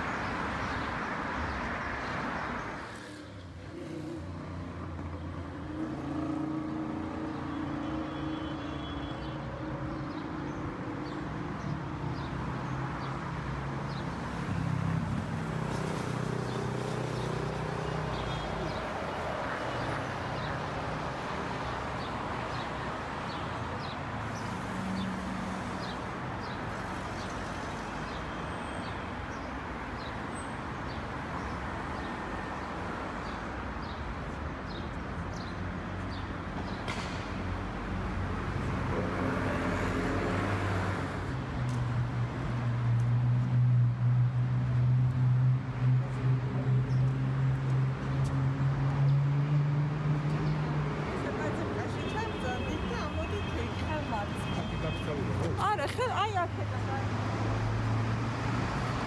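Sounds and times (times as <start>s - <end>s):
traffic noise: 0.0s - 59.0s.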